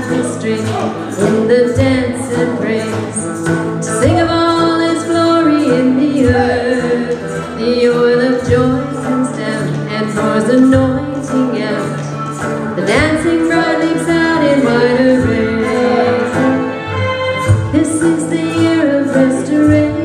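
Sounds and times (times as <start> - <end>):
woman singing: 0.0 - 16.6, 17.6 - 20.0
instrumental backing music: 0.0 - 20.0.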